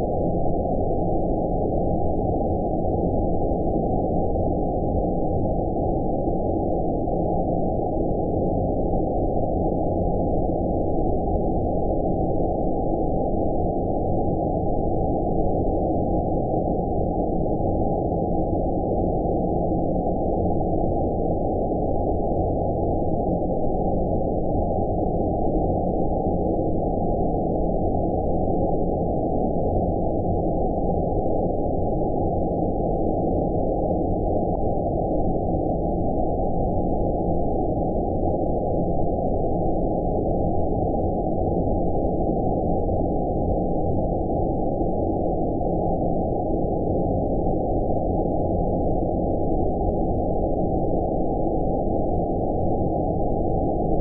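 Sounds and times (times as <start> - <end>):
faint steady tones: 0.0 - 54.0.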